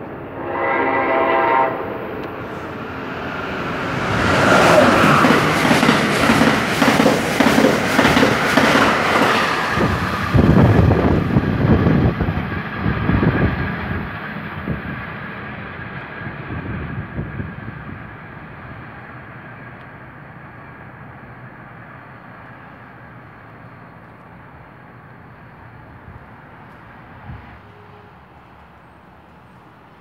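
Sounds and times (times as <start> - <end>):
passenger train rushing past: 0.0 - 30.0.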